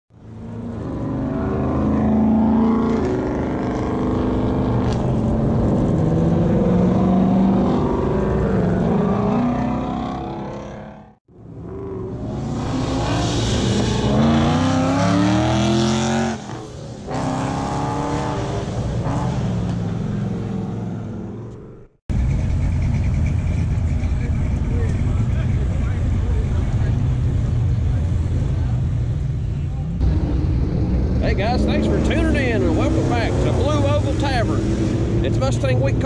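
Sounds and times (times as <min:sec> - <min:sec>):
car engine accelerating hard: 0:00.2 - 0:36.0
car engines driving past: 0:00.2 - 0:36.0.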